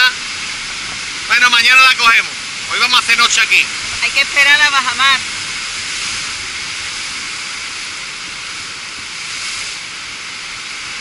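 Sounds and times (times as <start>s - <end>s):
surf breaking on rocks: 0.0s - 11.0s.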